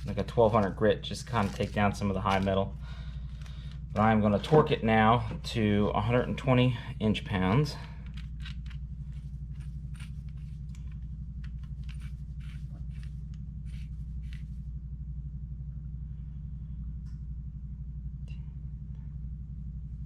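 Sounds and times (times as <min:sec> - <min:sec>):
workshop machinery hum: 0:00.0 - 0:20.0.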